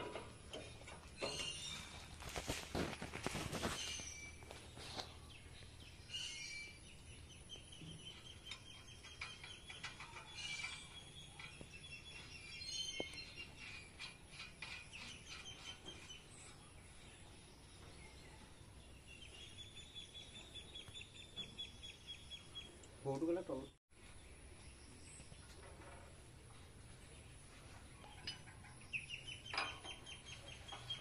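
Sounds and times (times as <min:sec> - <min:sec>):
faint birds chirping: 0:00.1 - 0:31.0.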